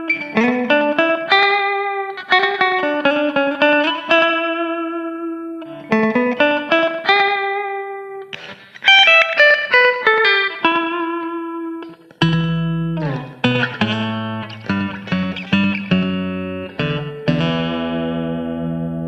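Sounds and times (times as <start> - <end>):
plucked guitar notes: 0.0 - 19.0.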